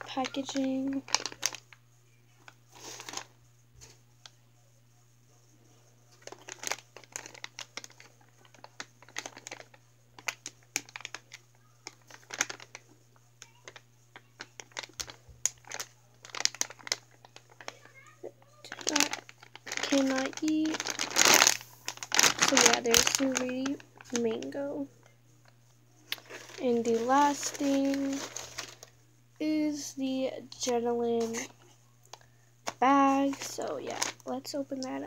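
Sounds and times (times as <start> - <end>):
plastic bag crinkling: 0.0 - 1.8, 2.4 - 3.3, 6.2 - 12.8, 13.4 - 25.0, 26.0 - 29.0, 30.6 - 35.0.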